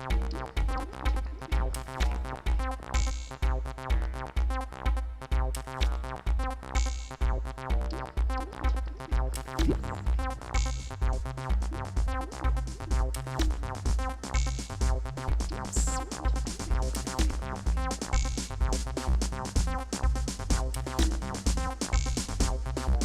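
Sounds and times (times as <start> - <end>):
electronic dub music: 0.0 - 23.0.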